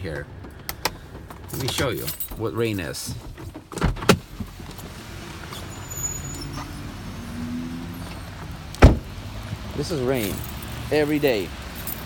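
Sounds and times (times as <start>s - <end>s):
car noise from inside: 0.8s - 11.2s.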